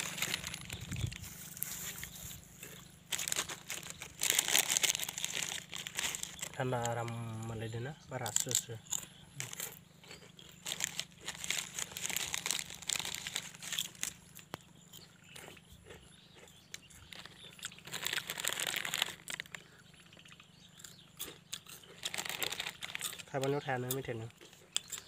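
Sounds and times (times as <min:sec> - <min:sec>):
chewing and crunching food: 0:00.0 - 0:25.0.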